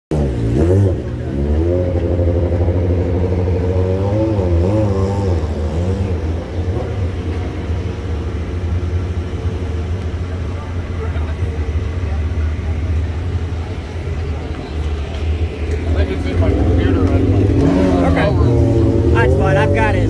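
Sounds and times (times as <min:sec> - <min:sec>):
engine rumbling: 0:00.1 - 0:20.0.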